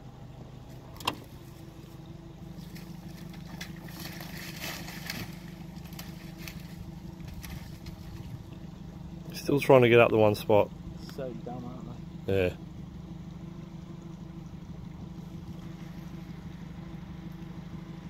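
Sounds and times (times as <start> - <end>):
boat motor idling: 0.0 - 18.0.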